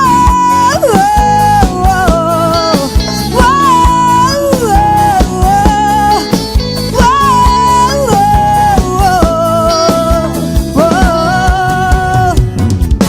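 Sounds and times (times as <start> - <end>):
wavering lead melody: 0.0 - 12.5
bass: 0.0 - 13.0
guitar chords: 0.0 - 13.0
steady kick drum: 0.0 - 13.0.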